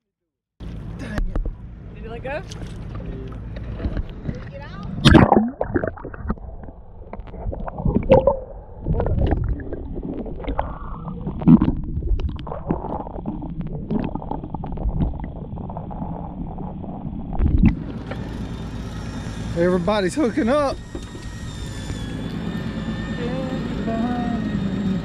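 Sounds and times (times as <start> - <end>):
water gurgling and sloshing: 0.6 - 25.0.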